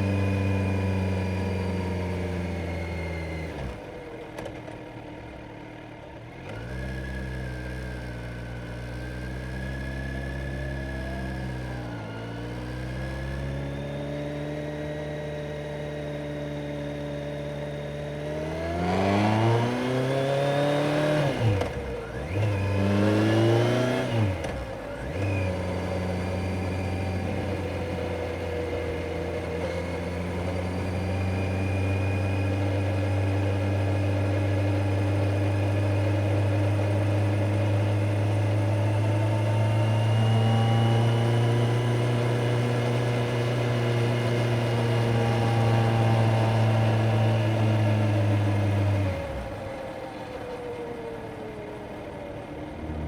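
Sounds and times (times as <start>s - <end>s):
motorcycle engine holding steady note: 0.0s - 53.0s.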